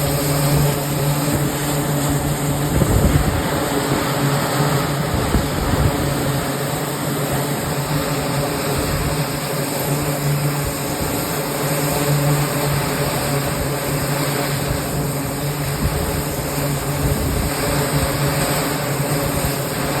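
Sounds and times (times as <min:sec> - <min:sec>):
aircraft engines droning: 0:00.0 - 0:20.0.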